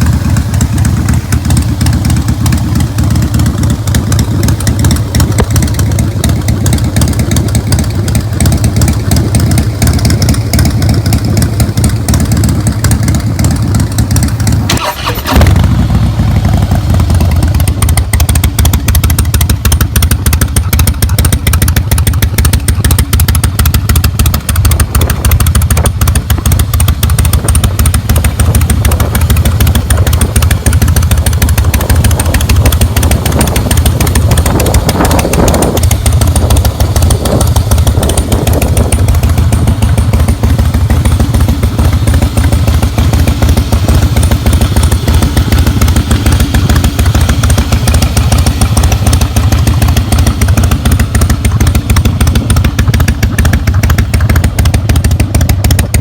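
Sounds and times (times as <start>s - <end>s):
motorcycle engine running loud: 0.0s - 56.0s.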